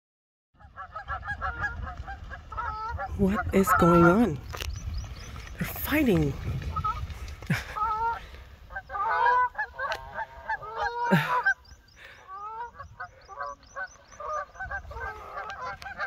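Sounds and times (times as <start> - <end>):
geese honking: 0.6 - 4.6, 5.6 - 16.0.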